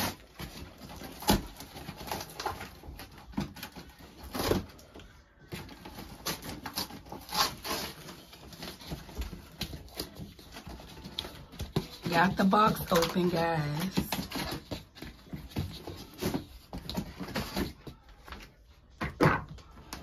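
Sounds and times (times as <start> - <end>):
cardboard rustling and knocking: 0.0 - 20.0
scissors cutting cardboard: 0.0 - 20.0.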